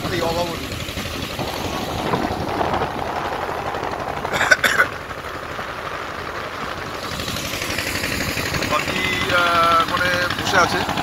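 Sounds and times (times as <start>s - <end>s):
boat engine running: 0.0s - 11.0s
water noise: 0.0s - 11.0s
wind: 0.0s - 11.0s.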